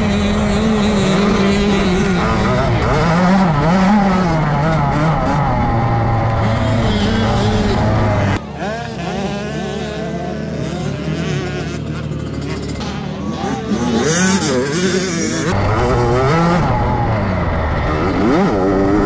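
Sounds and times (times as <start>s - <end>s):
dirt bike engine revving: 0.0s - 19.0s
distant dirt bike engines: 0.0s - 19.0s.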